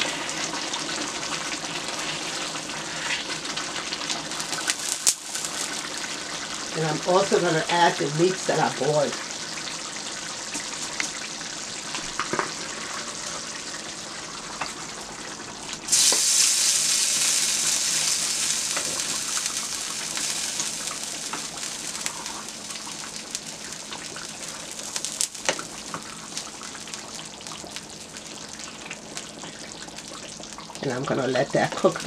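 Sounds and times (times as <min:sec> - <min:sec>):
sauce simmering and bubbling: 0:00.0 - 0:06.7, 0:09.2 - 0:30.8
meat sizzling in hot sauce: 0:00.0 - 0:32.0.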